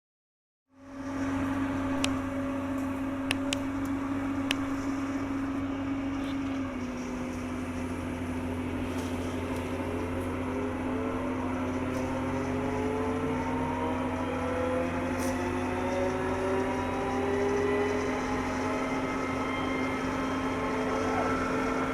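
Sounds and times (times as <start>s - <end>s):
excavator diesel engine: 0.7s - 21.9s
rising hydraulic whine: 0.7s - 21.9s.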